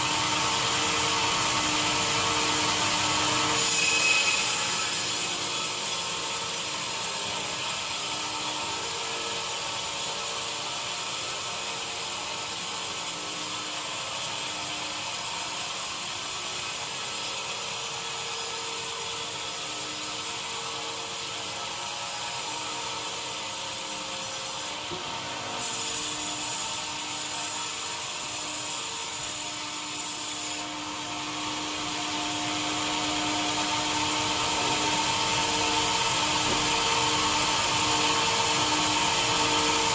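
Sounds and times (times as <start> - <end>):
saw grinding through wood: 2.4 - 8.8, 11.1 - 39.9.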